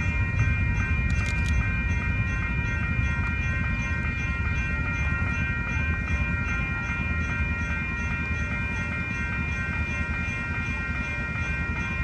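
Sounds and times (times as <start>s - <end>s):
crossing signal bell ringing: 0.0s - 12.0s.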